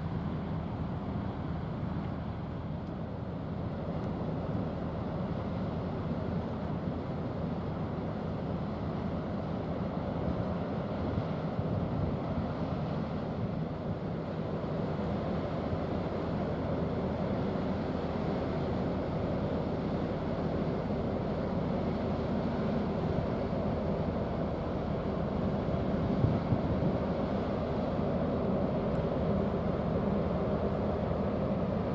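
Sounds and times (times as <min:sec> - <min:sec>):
ship engine drone: 0:00.0 - 0:31.9
wind: 0:00.0 - 0:31.9.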